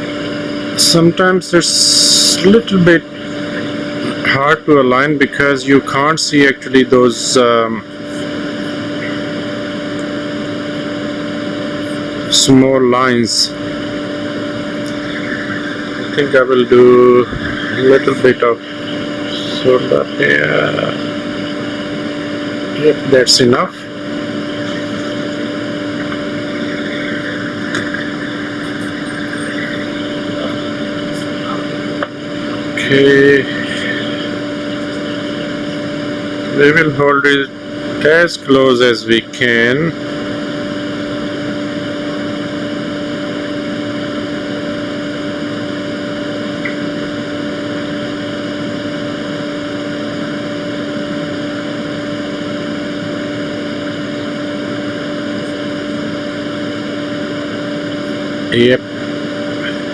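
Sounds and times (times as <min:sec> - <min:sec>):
electric blower fan whirring: 0:00.0 - 0:59.9
low hum: 0:00.0 - 0:59.9.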